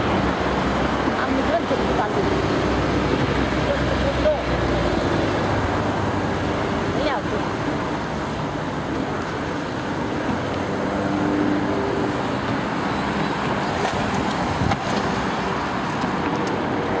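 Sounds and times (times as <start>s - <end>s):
cars passing: 0.0s - 17.0s
road traffic noise: 0.0s - 17.0s.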